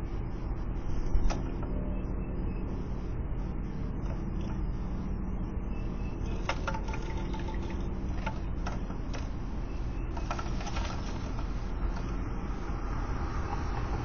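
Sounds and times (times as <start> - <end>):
low outdoor rumble: 0.0 - 14.0
faint ticks and scratches: 2.6 - 14.0.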